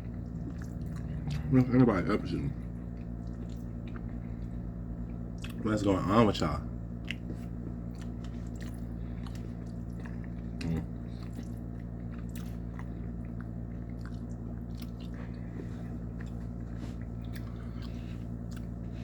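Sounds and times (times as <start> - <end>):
person chewing food: 0.0 - 1.8, 2.6 - 5.6, 6.9 - 19.0.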